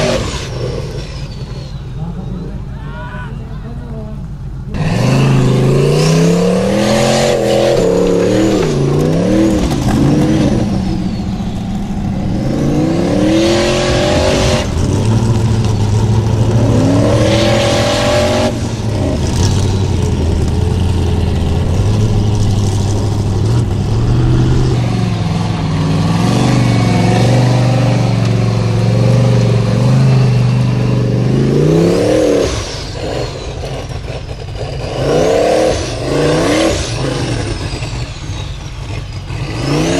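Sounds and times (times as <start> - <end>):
buggy engine revving hard: 0.0 - 2.2, 4.7 - 39.9.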